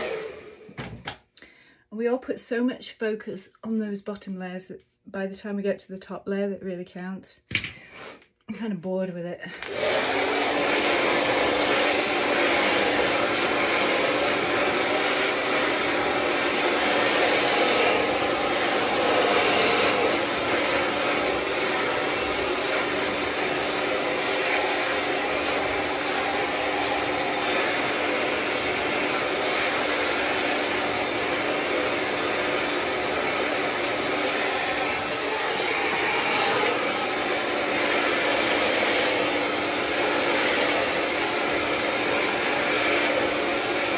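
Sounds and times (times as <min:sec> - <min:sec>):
hair dryer blowing: 0:00.0 - 0:01.2, 0:07.5 - 0:08.3, 0:09.4 - 0:43.9.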